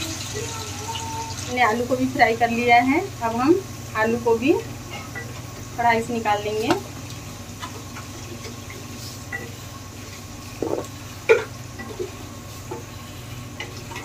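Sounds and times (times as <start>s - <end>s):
potato slices frying in oil: 0.0s - 14.0s.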